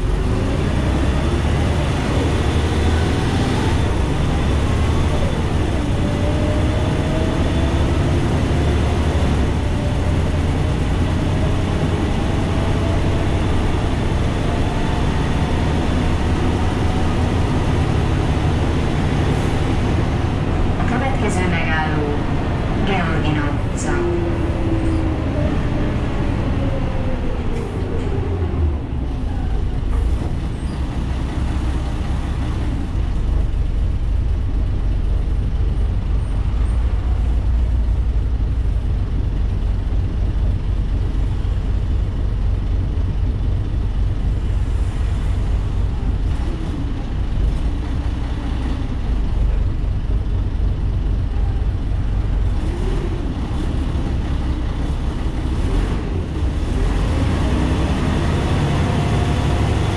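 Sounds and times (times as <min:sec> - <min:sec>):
diesel engine and road rumble: 0:00.0 - 0:59.9.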